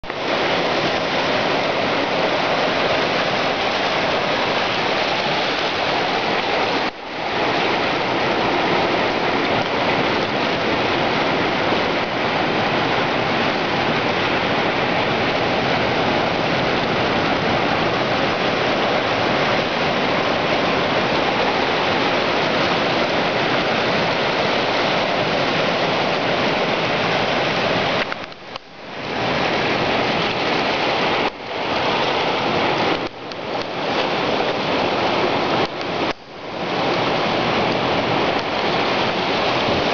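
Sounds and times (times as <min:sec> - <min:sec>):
surf washing over rocks: 0:00.0 - 0:39.9.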